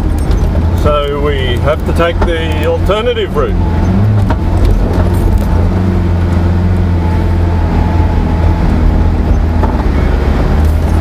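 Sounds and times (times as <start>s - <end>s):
vehicle engine droning under load: 0.0s - 11.0s.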